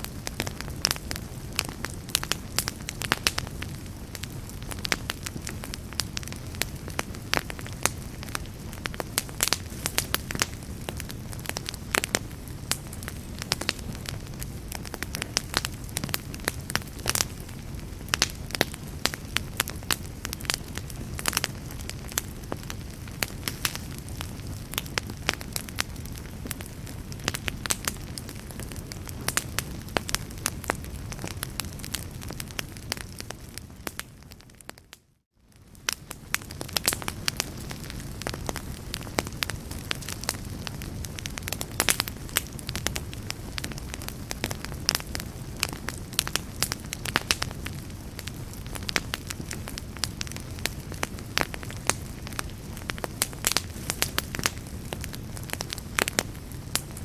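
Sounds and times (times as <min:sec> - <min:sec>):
low rumble of flames: 0:00.0 - 0:57.0
wood fire crackling: 0:00.0 - 0:57.0
sharp pops of fire: 0:00.1 - 0:34.9, 0:35.5 - 0:57.0.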